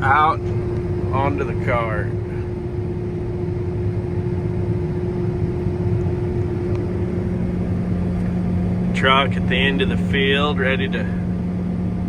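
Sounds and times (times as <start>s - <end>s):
auger whine: 0.0s - 12.0s
combine harvester drone: 0.0s - 12.0s.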